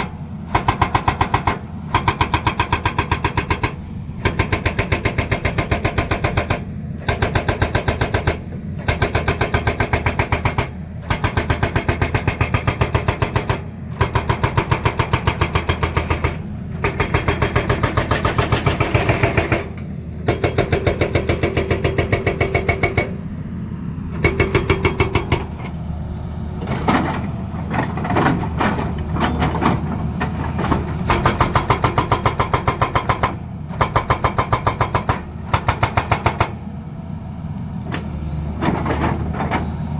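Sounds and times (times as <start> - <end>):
hydraulic rock breaker hammering: 0.0 - 23.2, 24.2 - 25.7, 26.7 - 36.6
diesel engine running: 0.0 - 39.9.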